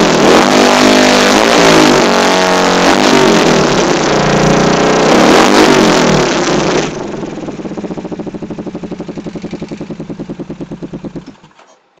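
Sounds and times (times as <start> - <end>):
scooter engine revving and idling: 0.0 - 11.6.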